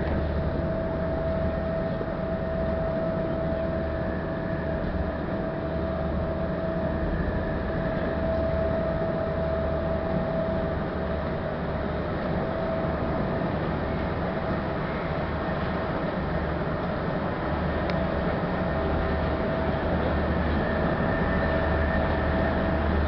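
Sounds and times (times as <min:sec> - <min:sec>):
engine whine: 0:00.0 - 0:23.0
ferry engine rumbling: 0:00.0 - 0:23.0.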